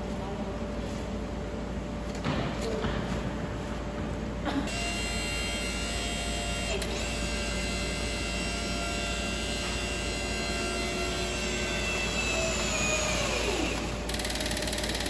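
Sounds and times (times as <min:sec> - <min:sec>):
compactor machine hum and whine: 0:00.0 - 0:15.0.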